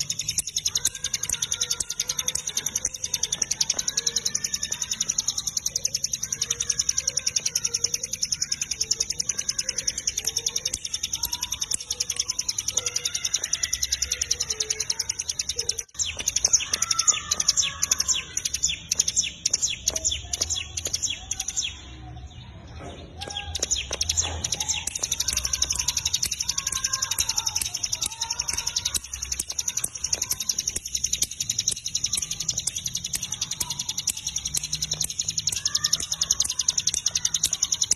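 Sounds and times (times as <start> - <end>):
bird rattling trill: 0.0 - 21.8, 23.2 - 37.9.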